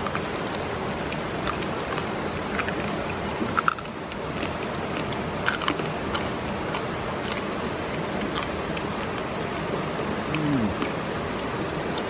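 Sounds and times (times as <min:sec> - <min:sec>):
crab shell crunching: 0:00.0 - 0:12.0
stream rushing: 0:00.0 - 0:12.0.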